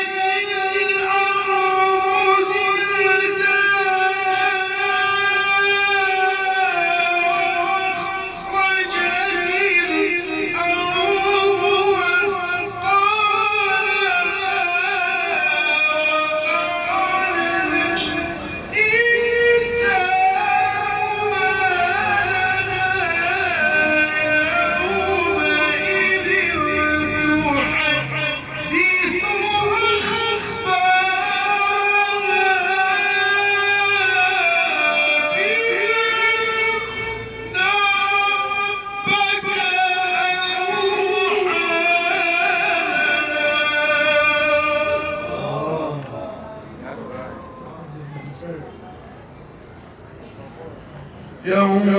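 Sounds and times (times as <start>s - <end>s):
man chanting melodic recitation: 0.0s - 48.8s, 51.2s - 51.9s.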